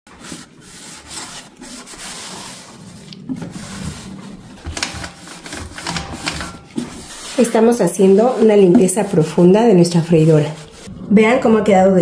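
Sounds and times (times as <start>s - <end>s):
damp cloth scrubbing: 0.0s - 10.9s.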